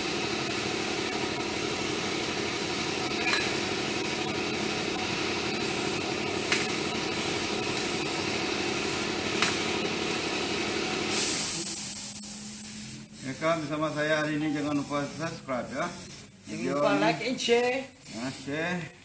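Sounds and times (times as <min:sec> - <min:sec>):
airbrush air hiss: 0:00.0 - 0:05.0, 0:05.6 - 0:18.7.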